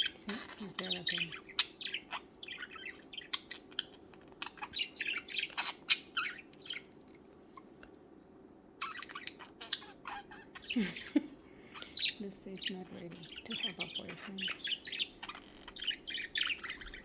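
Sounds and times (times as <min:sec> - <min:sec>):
budgerigars chirping and squawking: 0:00.0 - 0:06.9, 0:08.8 - 0:17.0.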